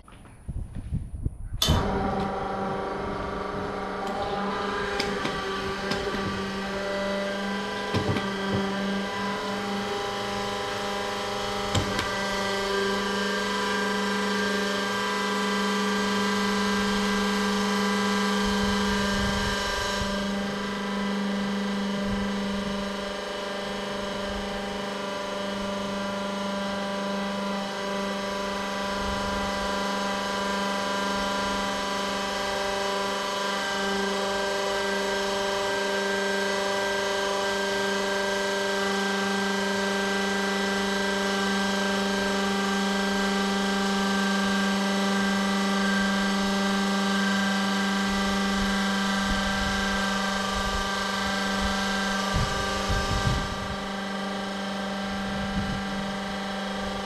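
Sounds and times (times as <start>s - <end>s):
electric fuel pump humming: 1.6s - 57.0s.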